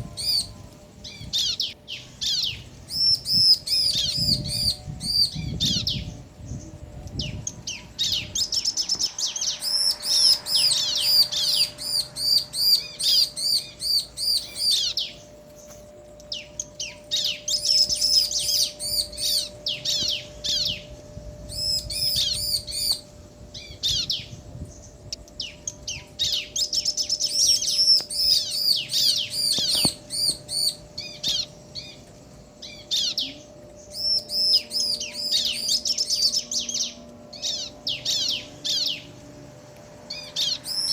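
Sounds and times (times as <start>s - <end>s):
birds chattering chirps: 0.0s - 39.4s, 40.0s - 40.9s.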